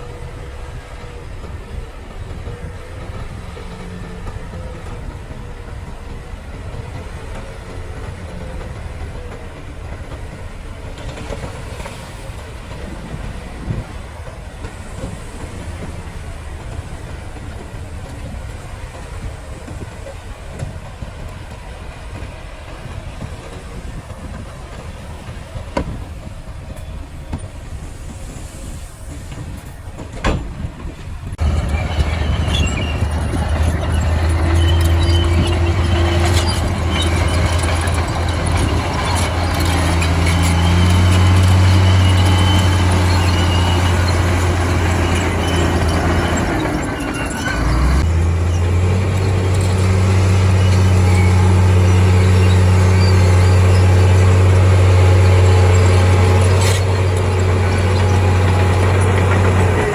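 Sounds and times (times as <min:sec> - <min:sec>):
bulldozer diesel engine: 0:00.0 - 0:59.9
steel crawler tracks clattering: 0:00.0 - 0:59.9.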